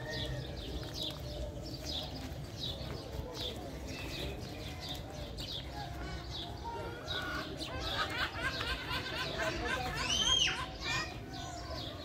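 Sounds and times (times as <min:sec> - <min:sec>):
birds chirping: 0:00.0 - 0:12.0
murmur of voices: 0:00.0 - 0:12.0.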